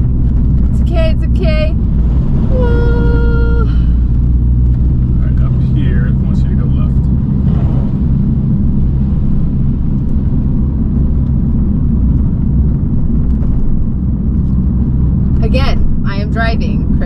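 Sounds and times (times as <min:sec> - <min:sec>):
car engine and road noise drone: 0:00.0 - 0:17.0.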